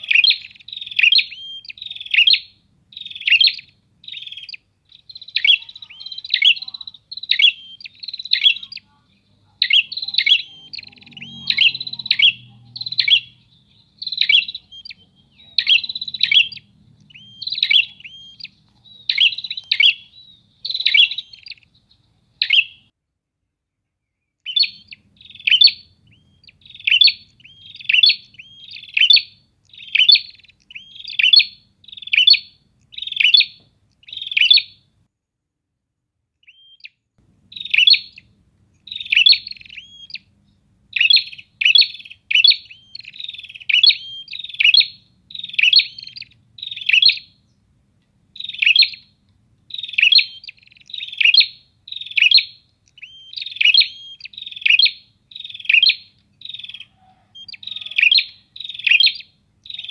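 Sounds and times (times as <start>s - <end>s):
birds chirping high and sharp: 0.0s - 22.9s, 24.1s - 34.9s, 36.4s - 47.7s, 48.3s - 59.9s.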